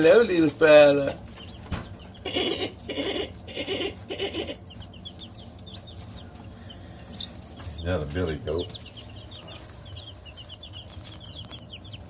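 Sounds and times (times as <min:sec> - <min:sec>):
chicks peeping: 0:00.0 - 0:12.0
chicken calling: 0:00.6 - 0:12.0.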